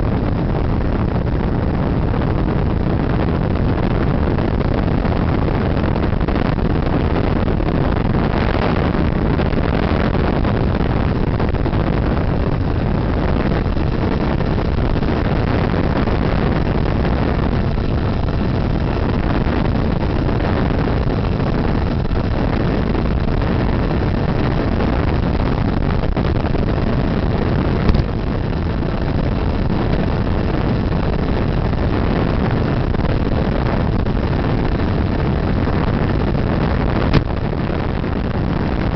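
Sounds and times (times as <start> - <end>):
model plane propeller: 0.0 - 37.4
wind rushing: 0.0 - 38.9.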